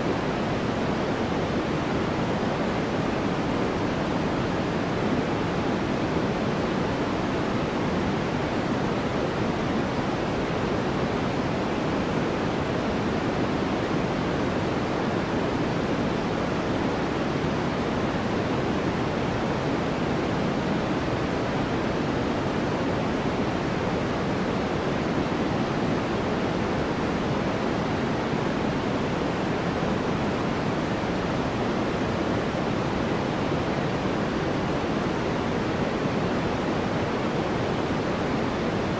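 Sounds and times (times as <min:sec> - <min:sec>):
white noise rushing hiss: 0:00.0 - 0:38.9.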